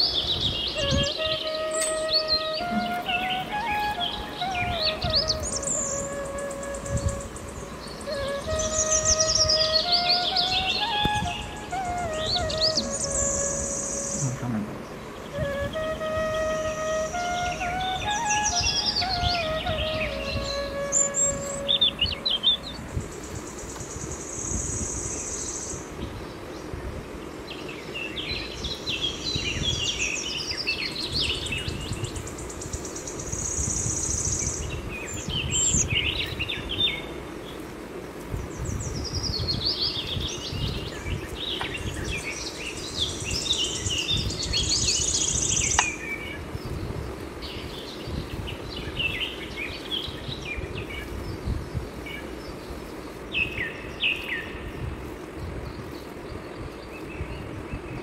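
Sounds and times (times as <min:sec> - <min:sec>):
birds chirping: 0:00.0 - 0:37.7, 0:38.3 - 0:58.0.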